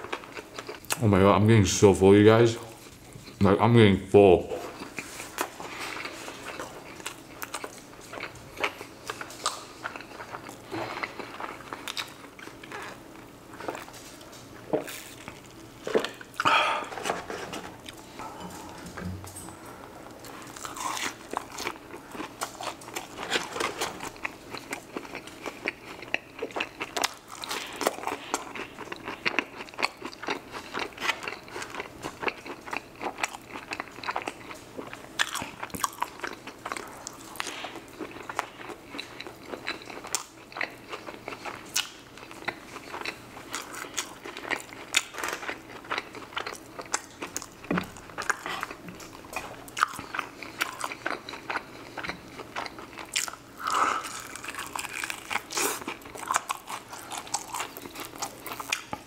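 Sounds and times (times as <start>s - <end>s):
crunchy chicken being chewed: 0.0s - 1.1s, 4.7s - 19.1s, 19.9s - 59.0s.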